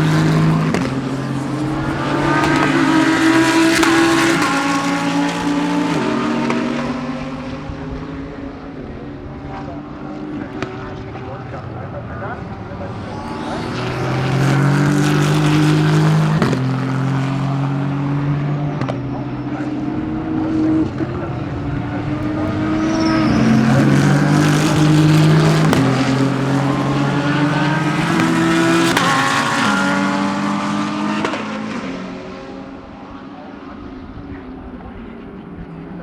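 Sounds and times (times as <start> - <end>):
race car engines accelerating: 0.0 - 36.0
race car passing by: 0.0 - 36.0.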